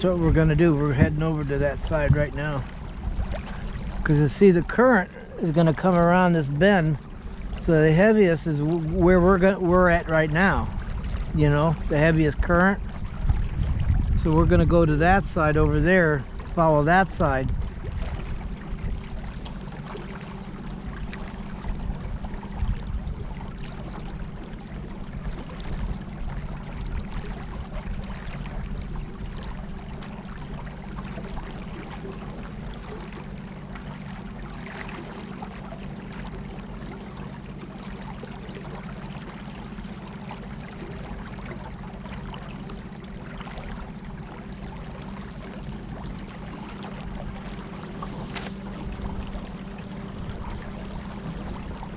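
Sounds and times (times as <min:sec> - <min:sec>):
water rushing around boat: 0:00.0 - 0:51.9.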